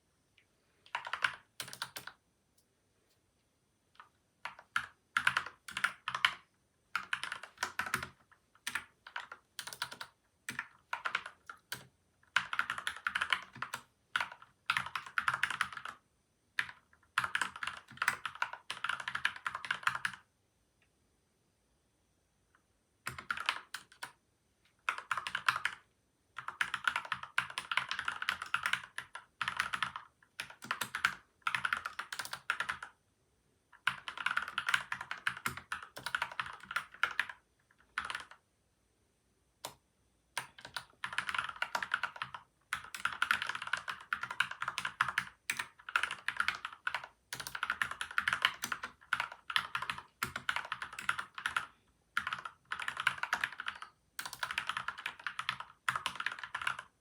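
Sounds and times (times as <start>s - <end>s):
mechanical keyboard typing: 0.9s - 2.2s, 4.0s - 16.0s, 16.6s - 20.3s, 23.0s - 24.2s, 24.8s - 25.8s, 26.4s - 33.0s, 33.8s - 38.4s, 40.4s - 57.0s.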